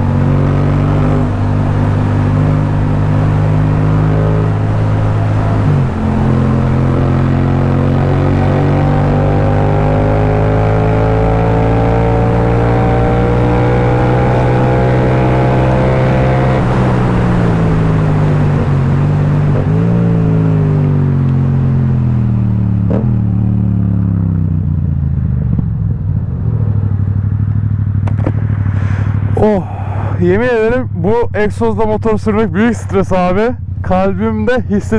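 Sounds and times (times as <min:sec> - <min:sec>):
motorcycle engine revving: 0:00.0 - 0:30.2.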